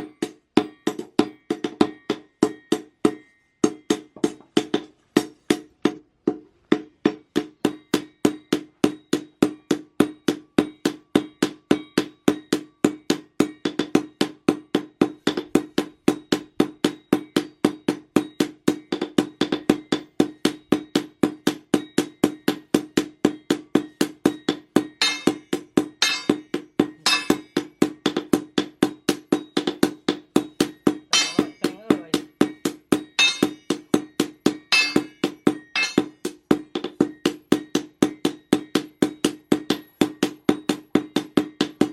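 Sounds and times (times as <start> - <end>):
hammer ringing on steel and anvil: 0.0 - 5.7, 6.7 - 41.9.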